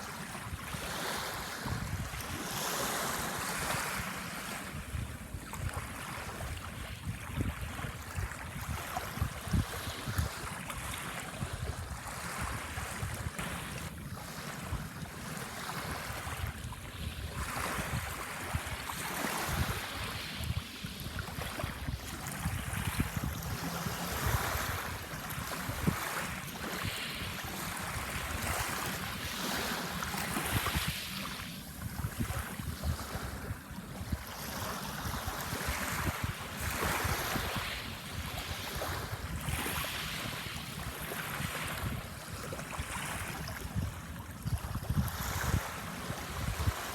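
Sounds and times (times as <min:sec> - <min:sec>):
wind buffeting microphone: 0:00.1 - 0:14.8, 0:15.8 - 0:46.9.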